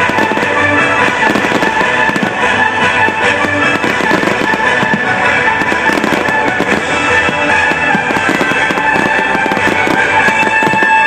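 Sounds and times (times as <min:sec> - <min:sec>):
fireworks crackling and popping: 0:00.0 - 0:11.0
music playing: 0:00.0 - 0:11.0.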